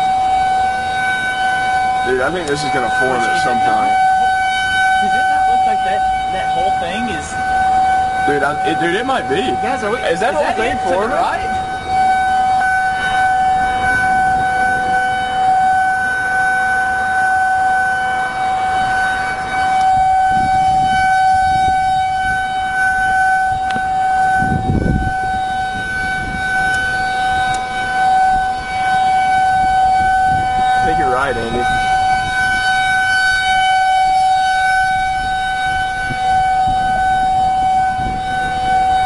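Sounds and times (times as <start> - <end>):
warning siren steady tone: 0.0 - 39.0.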